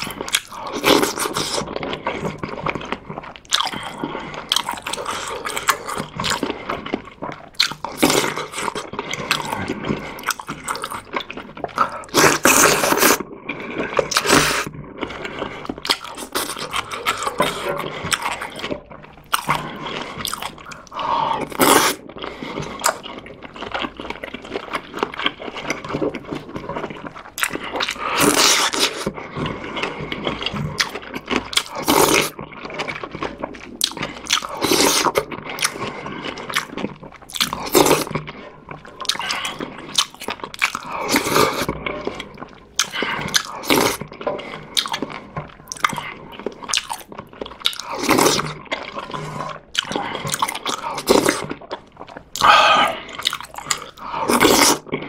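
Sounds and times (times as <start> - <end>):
chewing and biting noodles: 0.0 - 55.0.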